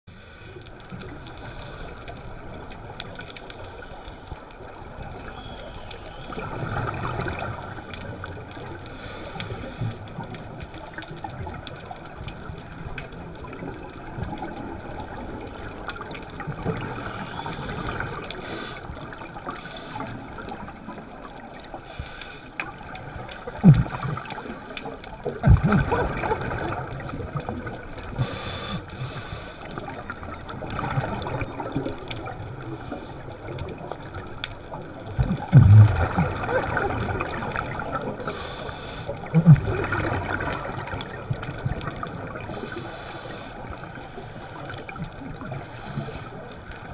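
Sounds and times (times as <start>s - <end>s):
muffled underwater hiss: 0.1s - 46.9s
underwater regulator bubbles gurgling: 0.8s - 46.9s.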